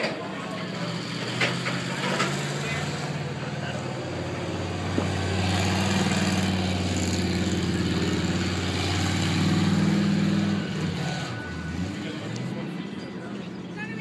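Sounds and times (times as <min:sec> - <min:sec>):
tram engine droning: 0:00.0 - 0:13.9.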